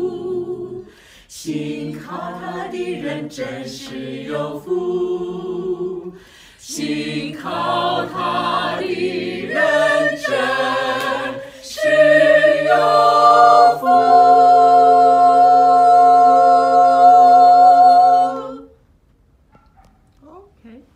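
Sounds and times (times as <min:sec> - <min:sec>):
group singing a hymn unaccompanied: 0:00.0 - 0:18.8.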